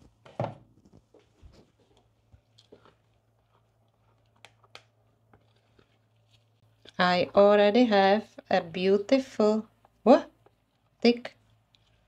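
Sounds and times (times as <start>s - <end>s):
spatula stirring thick batter: 0.8s - 12.0s.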